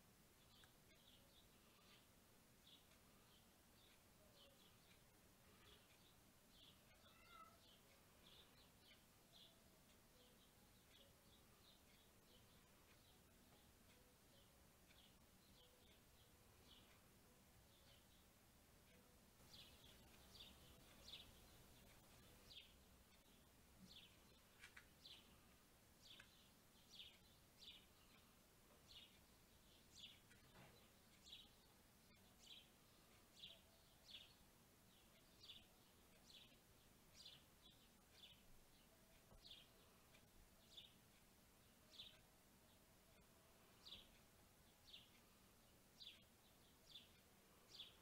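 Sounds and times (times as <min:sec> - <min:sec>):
bird chirping: 0:00.0 - 0:48.0.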